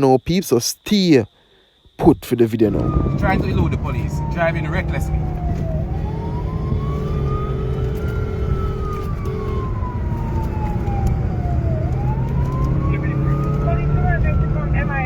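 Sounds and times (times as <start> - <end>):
police siren wailing: 2.7 - 15.0
vehicle engine and road noise: 2.7 - 15.0.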